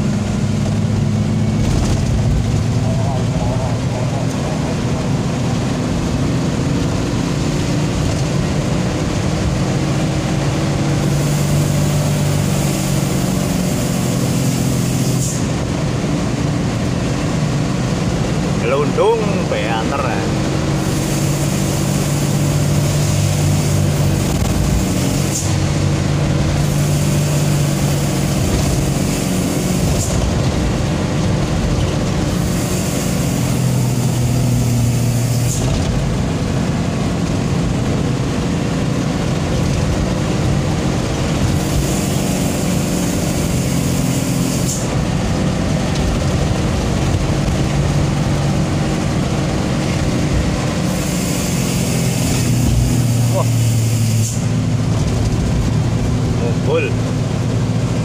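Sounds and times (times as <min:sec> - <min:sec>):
diesel truck engine running: 0:00.0 - 0:58.0
road noise: 0:00.0 - 0:58.0.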